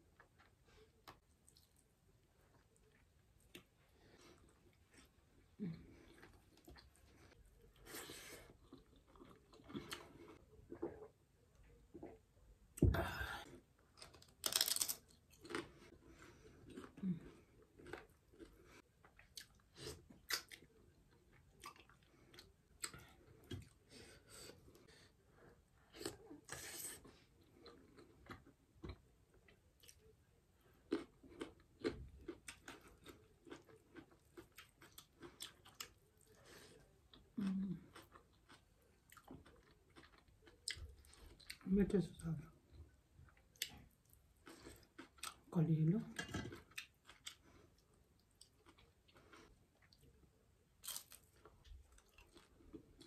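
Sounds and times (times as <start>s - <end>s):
person chewing food: 0.0s - 12.9s, 13.8s - 41.6s, 42.8s - 45.5s, 46.2s - 53.0s.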